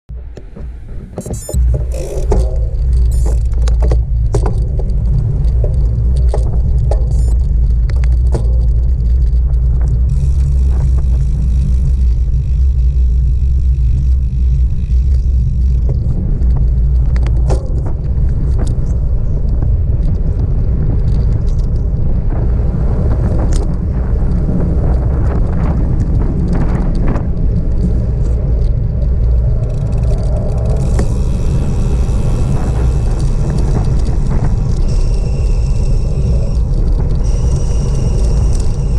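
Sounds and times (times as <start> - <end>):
bike ticks and rattles: 0.1 - 38.9
wind buffeting microphone: 0.1 - 38.9.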